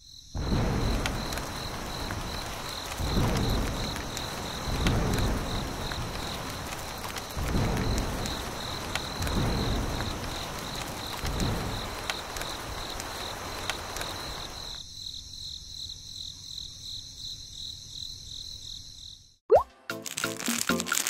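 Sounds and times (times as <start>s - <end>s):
insects chirping trill: 0.0s - 21.0s.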